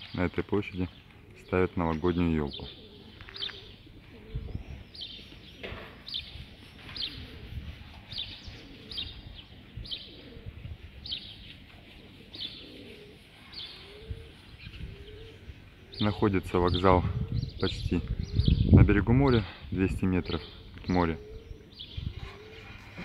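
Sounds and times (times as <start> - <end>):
faint pigeon cooing: 0.0 - 23.0.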